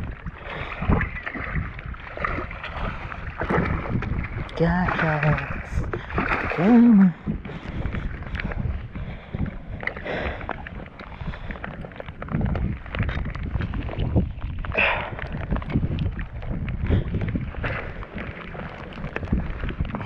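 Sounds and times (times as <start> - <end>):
water lapping at kayak hull: 0.0 - 20.0
wind buffeting microphone: 0.0 - 20.0.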